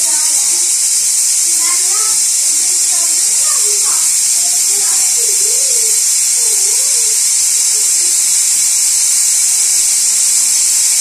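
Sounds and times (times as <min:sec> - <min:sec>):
steam hissing from pressure cooker: 0:00.0 - 0:11.0.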